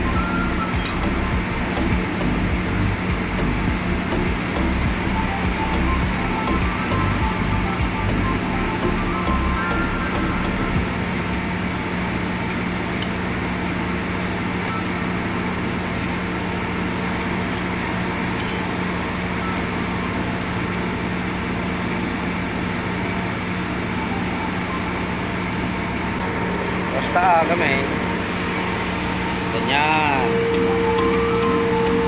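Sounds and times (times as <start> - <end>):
mechanical hum: 0.0 - 32.0.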